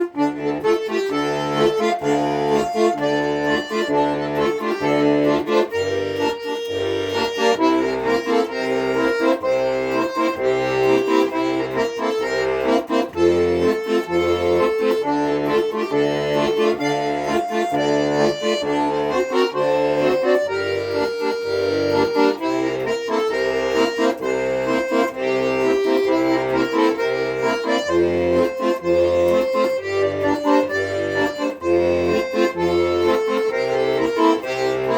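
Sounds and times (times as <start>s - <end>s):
accordion melody: 0.0s - 34.9s.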